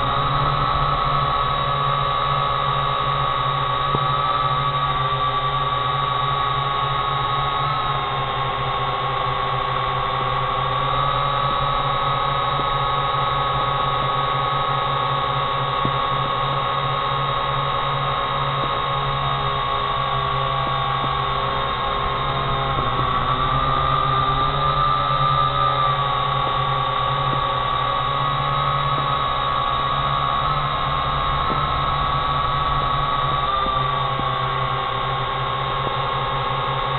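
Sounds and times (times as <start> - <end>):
drone propellers whining: 0.0 - 36.9.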